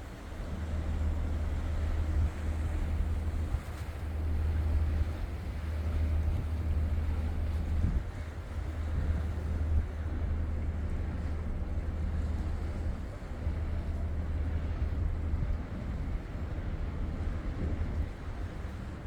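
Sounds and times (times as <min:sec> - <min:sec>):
steady low rumble: 0:00.0 - 0:19.0
wind buffeting microphone: 0:00.0 - 0:19.0.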